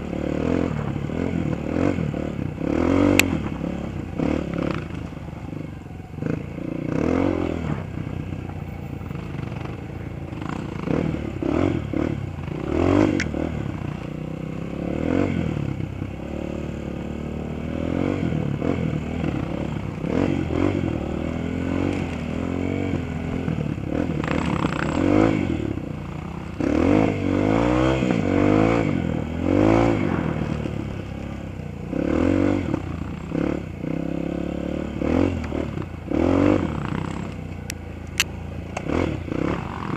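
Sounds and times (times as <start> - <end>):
dirt bike engine revving: 0.0 - 37.6, 38.2 - 39.9.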